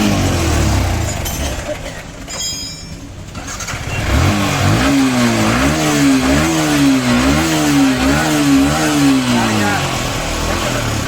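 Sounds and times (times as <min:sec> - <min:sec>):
motorcycle engine revving: 0:00.0 - 0:02.2, 0:03.2 - 0:11.0.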